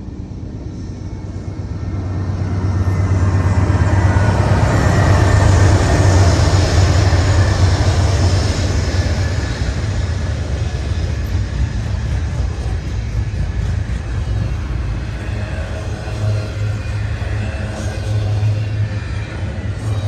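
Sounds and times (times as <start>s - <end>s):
diesel train rumble: 0.0s - 20.0s
train wheels on rails: 2.8s - 20.0s.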